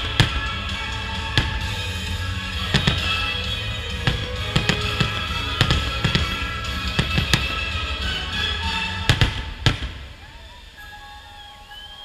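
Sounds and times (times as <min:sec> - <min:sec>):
loud music: 0:00.0 - 0:09.8
fireworks bangs: 0:00.0 - 0:10.5.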